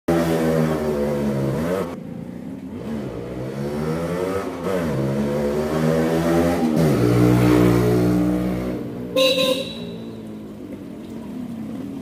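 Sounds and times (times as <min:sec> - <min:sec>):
motorcycle engine accelerating: 0:00.1 - 0:10.6.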